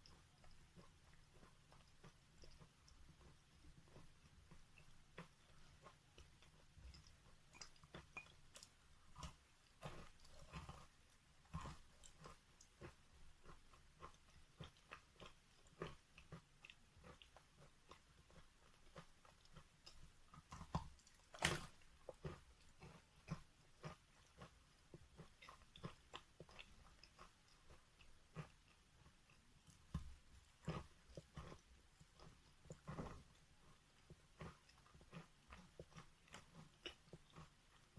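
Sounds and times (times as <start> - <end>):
chalk being chewed: 0.0 - 37.9.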